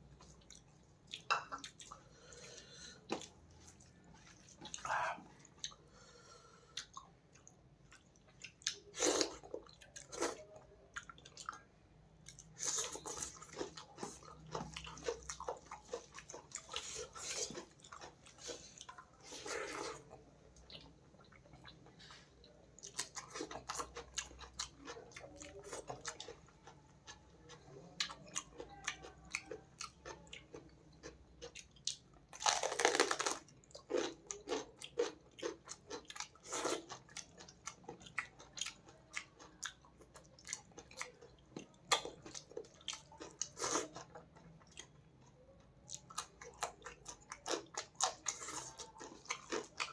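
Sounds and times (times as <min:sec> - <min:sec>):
person chewing with wet smacking: 0:00.2 - 0:05.9, 0:06.7 - 0:49.9.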